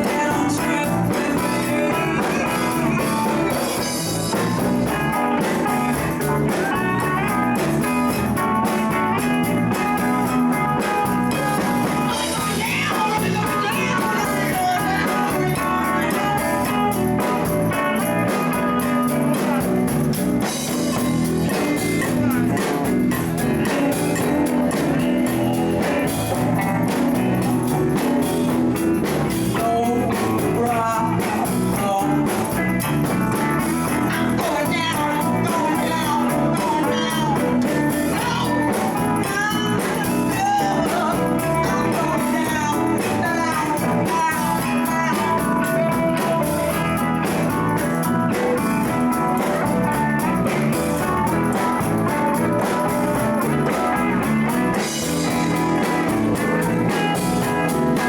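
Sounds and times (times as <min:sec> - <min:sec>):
live blues-rock band playing: 0:00.0 - 0:58.0.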